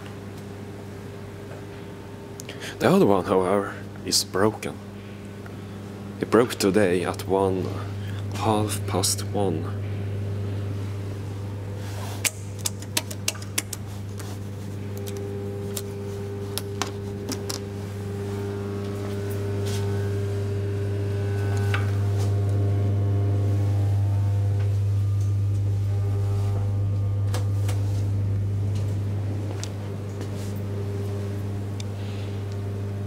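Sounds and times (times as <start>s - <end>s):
elevator electrical hum: 0.0s - 33.0s.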